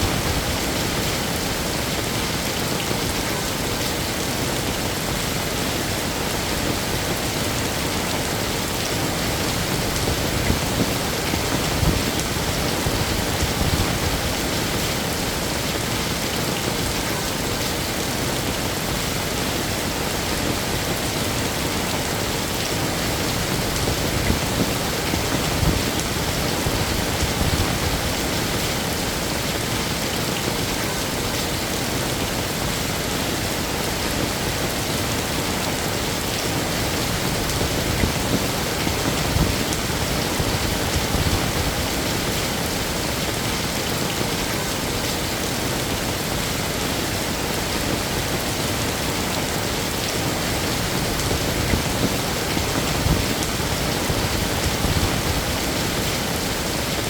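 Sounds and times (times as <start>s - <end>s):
heavy rain falling: 0.0s - 57.0s
louder rain spatters: 0.0s - 57.0s.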